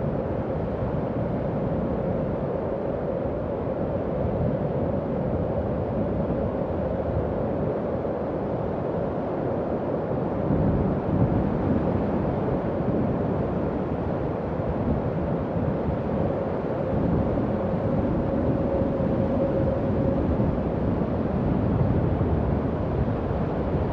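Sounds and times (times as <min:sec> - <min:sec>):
howling wind: 0:00.0 - 0:23.9.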